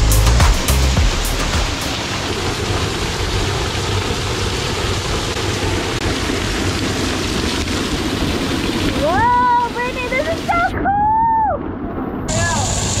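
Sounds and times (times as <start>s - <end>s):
small waterfall rushing: 0.0s - 10.8s, 12.3s - 13.0s.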